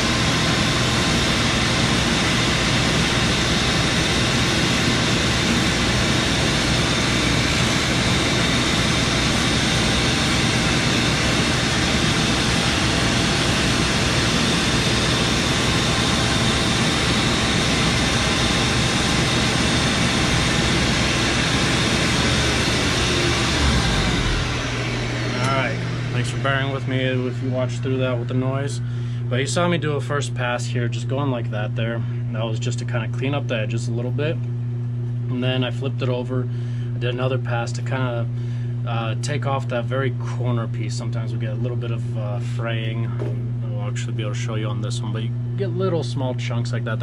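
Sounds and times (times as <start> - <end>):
machine fan and vacuum hum: 0.0 - 47.0.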